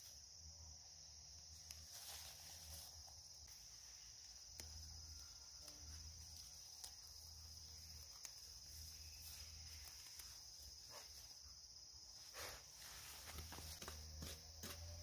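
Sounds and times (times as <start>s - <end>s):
insects droning: 0.0s - 15.0s
weeds being pulled by hand: 1.6s - 11.5s, 12.1s - 15.0s.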